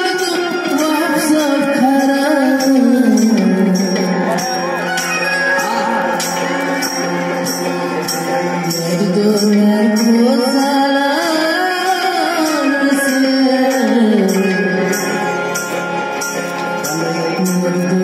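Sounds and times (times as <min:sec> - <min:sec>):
person singing: 0:00.0 - 0:18.0.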